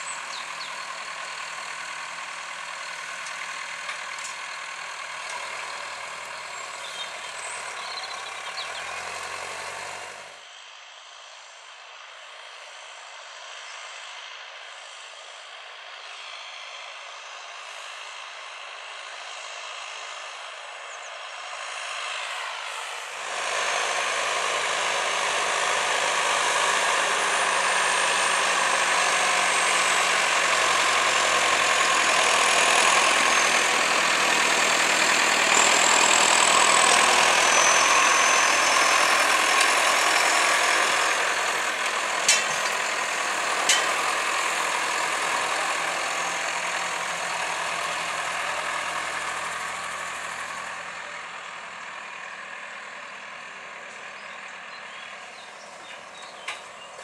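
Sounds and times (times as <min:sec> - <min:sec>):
tractor diesel engine: 0:00.0 - 0:57.0.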